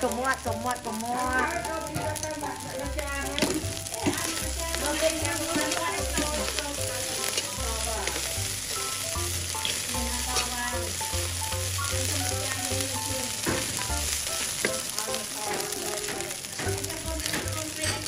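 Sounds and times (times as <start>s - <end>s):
background music: 0.0s - 18.0s
rice sizzling in a pan: 0.0s - 18.0s
metal ladle scraping a pan: 3.2s - 18.0s.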